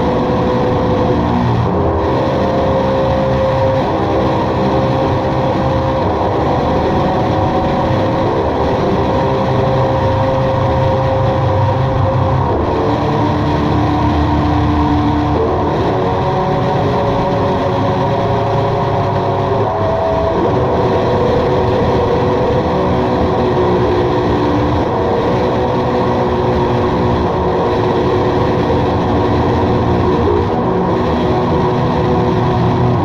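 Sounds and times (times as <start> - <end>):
experimental drone music: 0.0 - 33.0.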